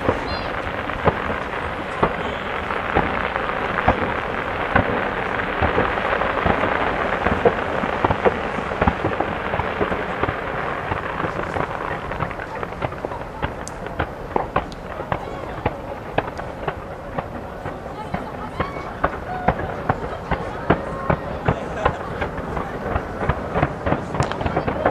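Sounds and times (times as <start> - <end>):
fireworks bangs: 0.0 - 24.9
fireworks crackling: 0.0 - 24.9.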